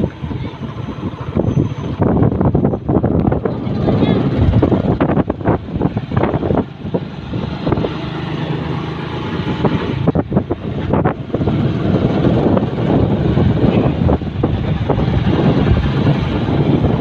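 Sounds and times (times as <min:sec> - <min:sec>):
scooter engine humming: 0:00.0 - 0:17.0
wind buffeting microphone: 0:00.0 - 0:17.0.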